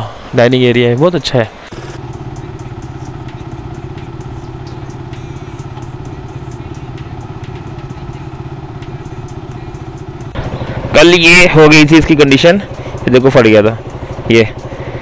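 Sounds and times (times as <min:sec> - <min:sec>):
motorcycle engine idling: 0:01.7 - 0:15.0.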